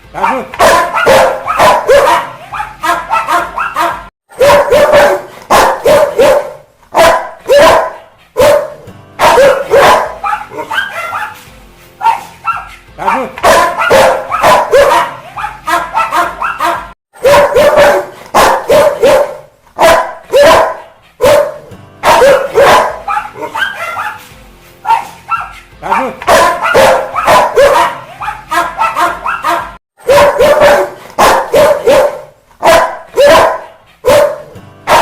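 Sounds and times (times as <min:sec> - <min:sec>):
dog barking angrily: 0:00.1 - 0:11.4, 0:12.0 - 0:24.2, 0:24.9 - 0:35.0.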